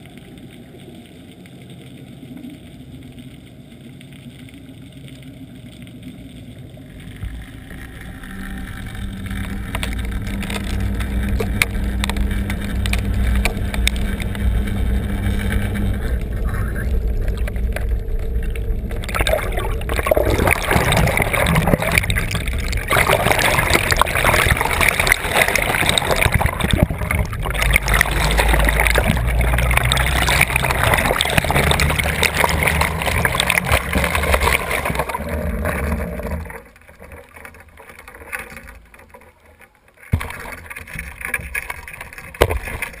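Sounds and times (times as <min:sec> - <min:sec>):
underwater boat engine rumble: 0:00.0 - 0:43.0
water gurgling: 0:00.0 - 0:43.0.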